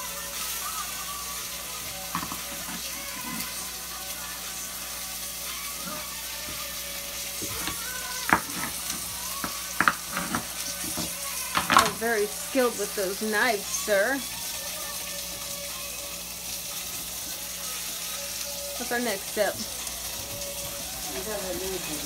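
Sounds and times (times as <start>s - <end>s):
onions sizzling in a skillet: 0.0s - 22.0s.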